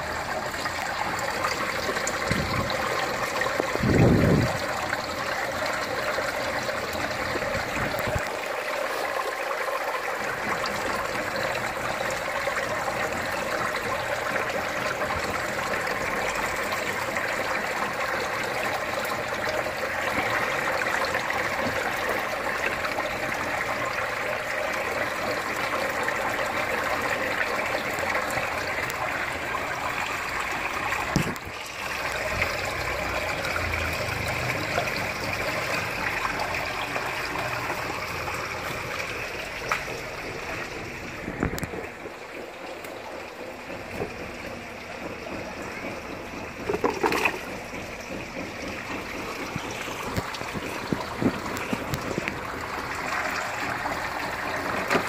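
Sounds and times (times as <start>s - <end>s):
water pouring into tank: 0.0s - 55.0s.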